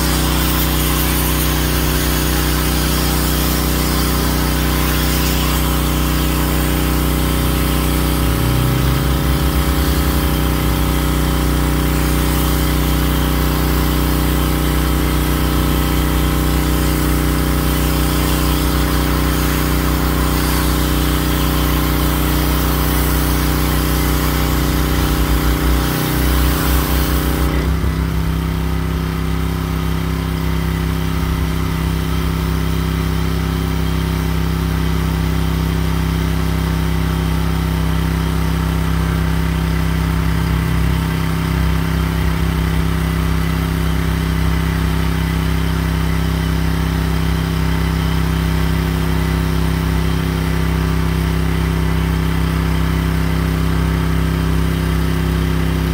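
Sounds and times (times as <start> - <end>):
pressure washer engine running: 0.0 - 55.9
spray hissing onto concrete: 0.0 - 55.9.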